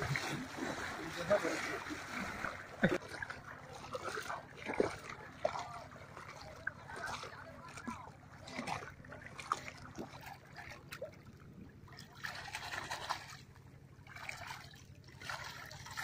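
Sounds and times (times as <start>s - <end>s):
person splashing in water: 0.0s - 11.2s, 11.9s - 16.0s
water trickling: 0.0s - 16.0s.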